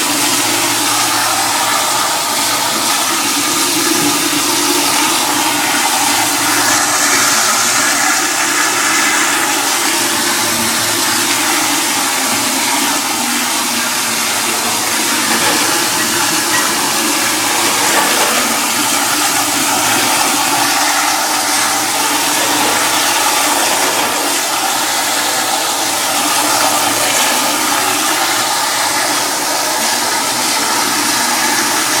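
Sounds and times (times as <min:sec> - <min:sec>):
toilet flushing: 0:00.0 - 0:32.0.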